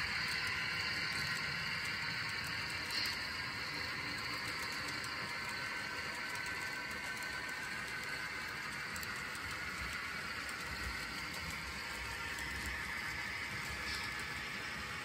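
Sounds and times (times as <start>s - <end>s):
model train wheels rolling on rail: 0.0s - 15.0s.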